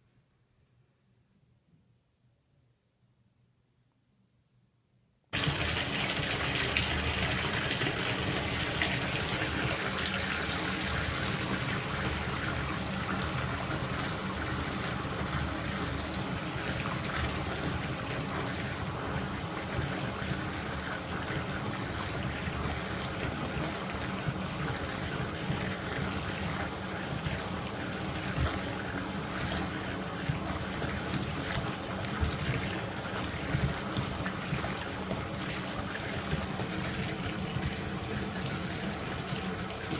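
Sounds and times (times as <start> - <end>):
tap water pouring into tub: 5.4 - 39.9.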